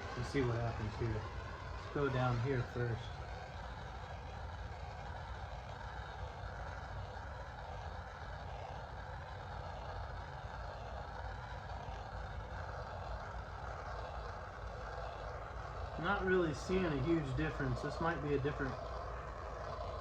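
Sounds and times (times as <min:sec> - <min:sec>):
heat tool blowing: 0:00.0 - 0:20.0.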